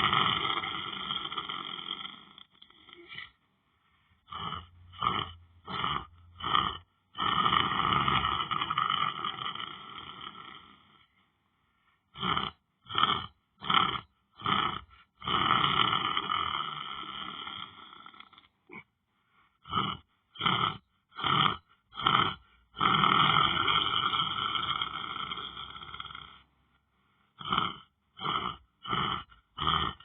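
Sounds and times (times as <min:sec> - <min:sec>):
person snoring and snorting: 0:00.0 - 0:03.4, 0:04.2 - 0:11.2, 0:12.1 - 0:18.9, 0:19.6 - 0:26.6, 0:27.3 - 0:30.0.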